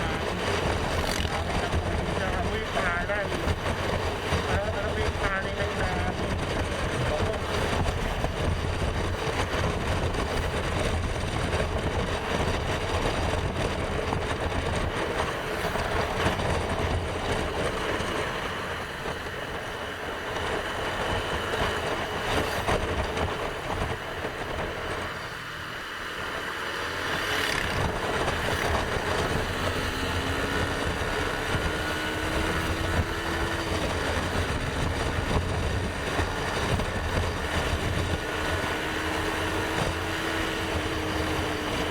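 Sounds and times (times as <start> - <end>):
motorcycle running: 0.0 - 41.9
wind and road noise: 0.0 - 41.9.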